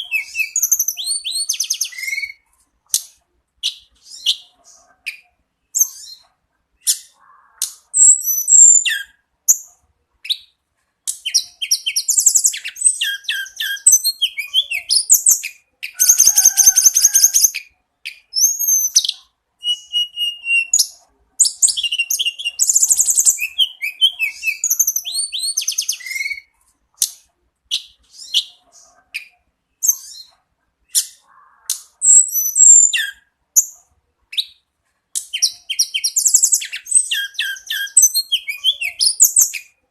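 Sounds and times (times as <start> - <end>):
songbird singing: 0.0 - 34.6, 35.2 - 39.9.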